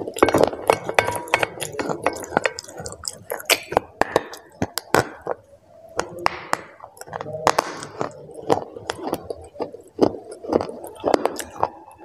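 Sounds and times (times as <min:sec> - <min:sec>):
chocolate snapping: 0:00.0 - 0:12.0
wet chewing mouth sounds: 0:00.0 - 0:12.0.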